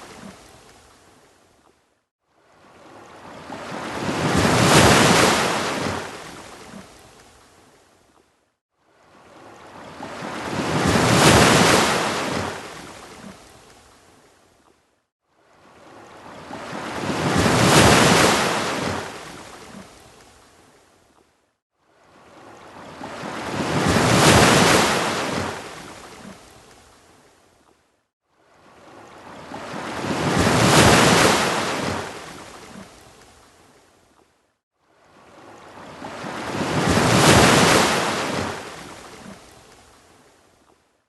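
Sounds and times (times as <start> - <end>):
ocean waves breaking on beach: 0.0 - 1.3, 2.2 - 8.0, 8.7 - 14.4, 15.2 - 20.9, 21.8 - 27.4, 28.3 - 34.0, 34.8 - 40.7.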